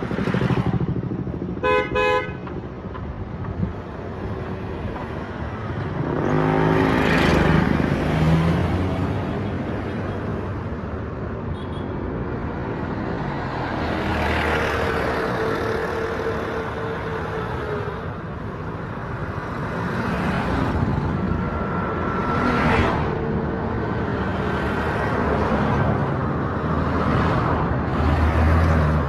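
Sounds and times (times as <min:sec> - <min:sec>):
vehicles passing close by: 0:00.0 - 0:29.0.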